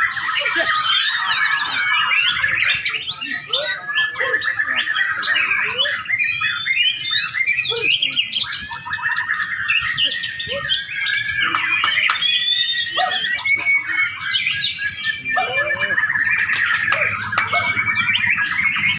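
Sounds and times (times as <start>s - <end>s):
bird singing whistles and trills: 0.0s - 18.9s.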